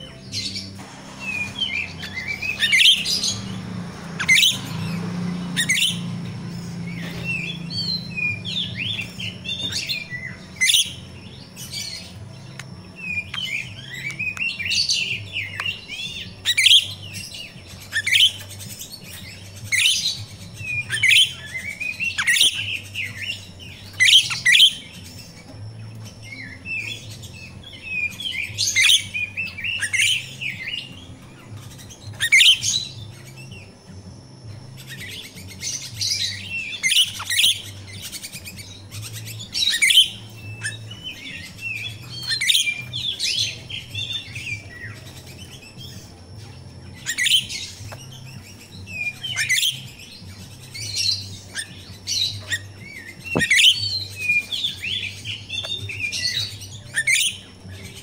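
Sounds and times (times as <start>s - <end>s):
starling chirping and chattering: 0.0s - 58.0s.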